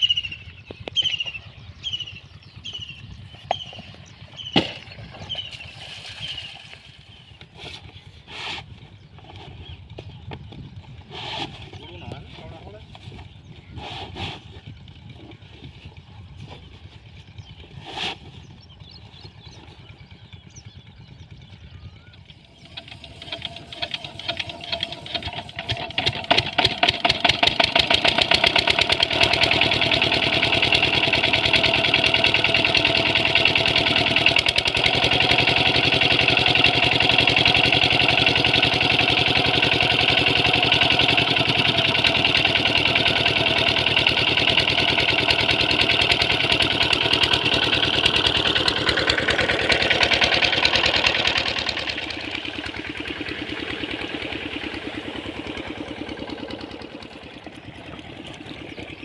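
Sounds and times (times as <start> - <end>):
diesel engine starting up: 0.0 - 59.0.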